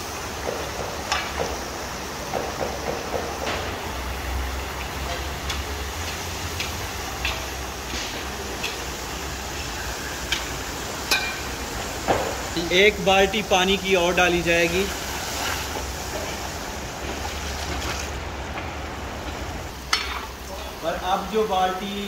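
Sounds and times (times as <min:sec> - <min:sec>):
cauldron boiling over fire: 0:00.0 - 0:22.0.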